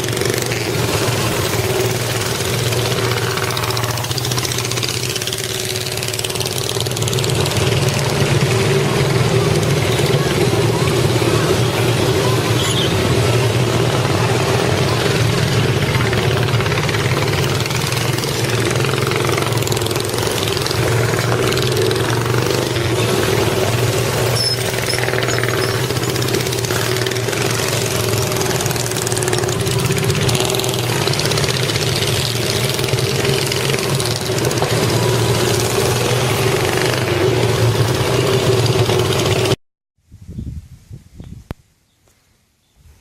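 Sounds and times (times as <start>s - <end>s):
engine idling: 0.0s - 39.6s.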